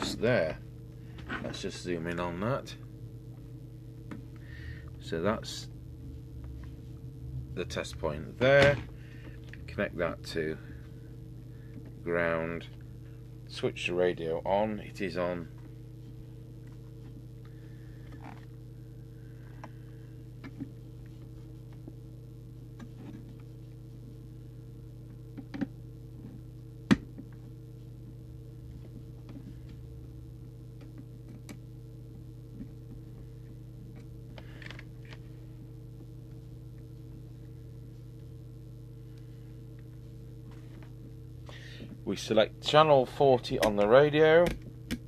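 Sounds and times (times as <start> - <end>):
electrical hum: 0.0 - 45.0.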